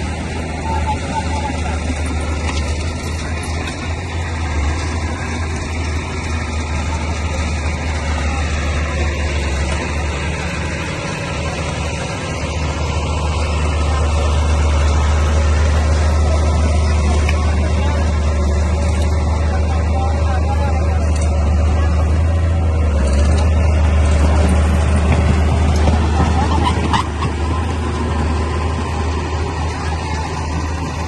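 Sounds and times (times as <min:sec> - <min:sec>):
diesel engine deep low hum: 0:00.0 - 0:31.0.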